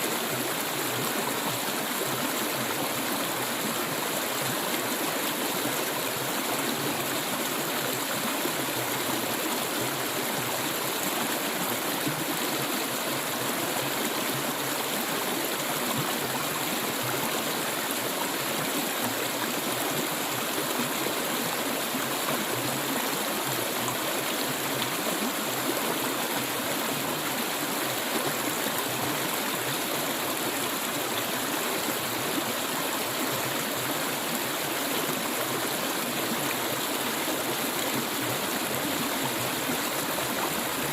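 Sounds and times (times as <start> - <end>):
stream water flowing over rocks: 0.0 - 40.9.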